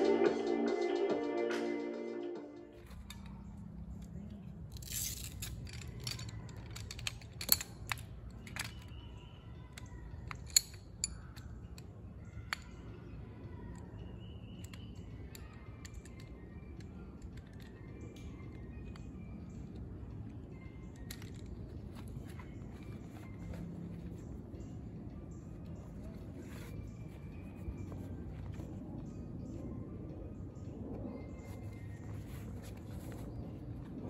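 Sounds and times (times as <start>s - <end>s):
low outdoor background: 0.0s - 34.0s.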